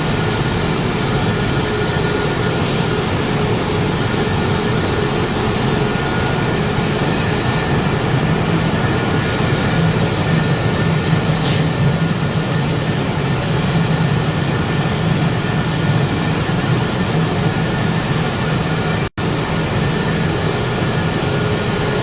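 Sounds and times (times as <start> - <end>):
production machinery running: 0.0 - 22.0.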